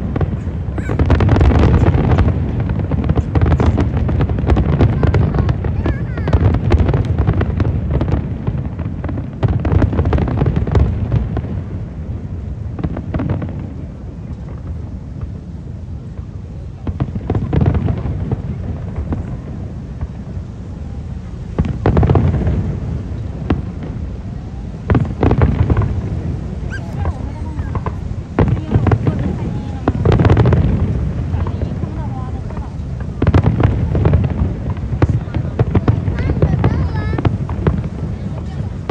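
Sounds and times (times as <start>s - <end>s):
fireworks booming and crackling: 0.0s - 38.9s.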